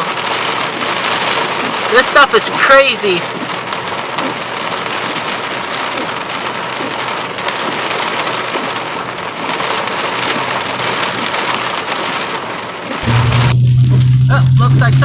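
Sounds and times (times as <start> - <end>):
heavy wind-driven rain: 0.0 - 15.0.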